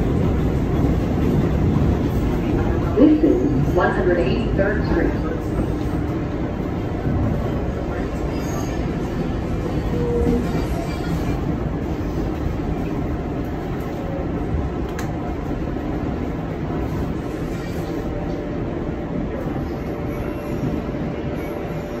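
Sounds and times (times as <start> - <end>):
subway car rumble: 0.0 - 22.0.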